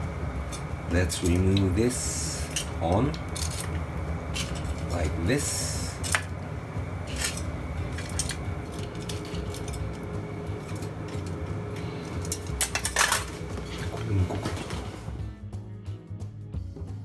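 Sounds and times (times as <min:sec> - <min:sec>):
utensils clinking against dishes: 0:00.0 - 0:15.2
steady low hum: 0:00.0 - 0:15.4.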